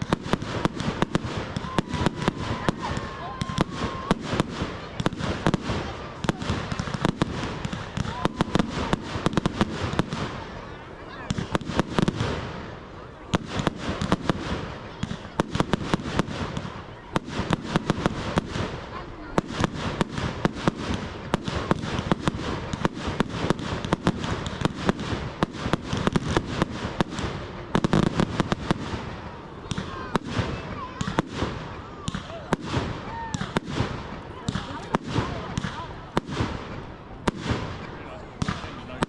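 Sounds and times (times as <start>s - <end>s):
fireworks crackling and banging: 0.0s - 39.0s.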